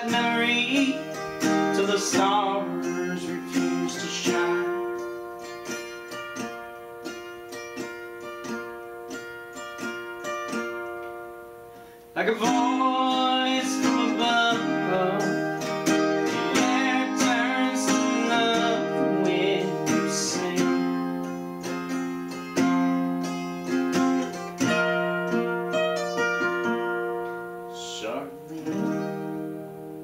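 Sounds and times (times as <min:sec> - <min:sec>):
fingerpicked acoustic guitar: 0:00.0 - 0:30.0.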